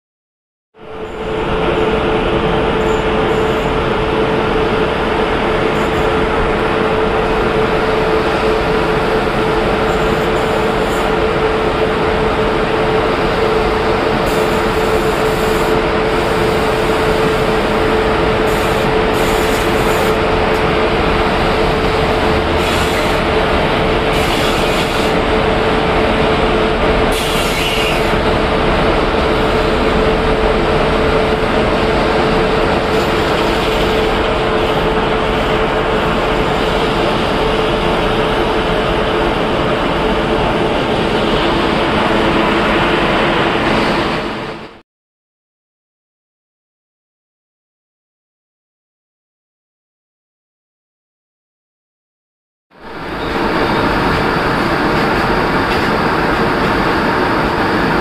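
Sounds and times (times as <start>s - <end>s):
loud train noise: 0.8s - 44.8s, 52.7s - 58.0s.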